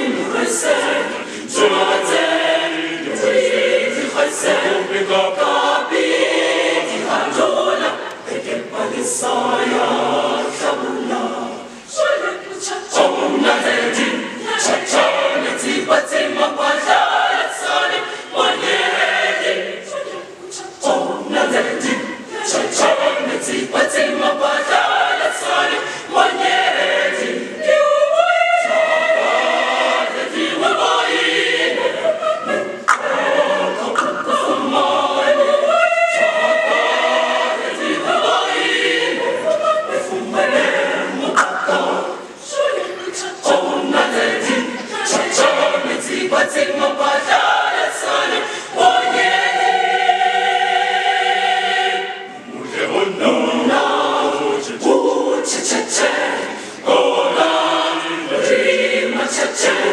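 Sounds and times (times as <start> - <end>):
school choir singing: 0.0 - 59.9.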